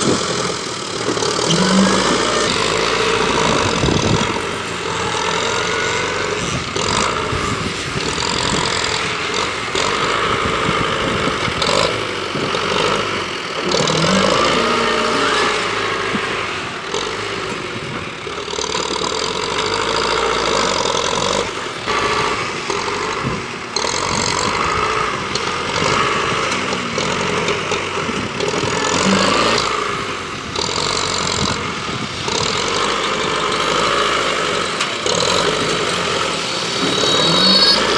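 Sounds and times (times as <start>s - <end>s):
tractor diesel engine revving: 0.0s - 37.9s.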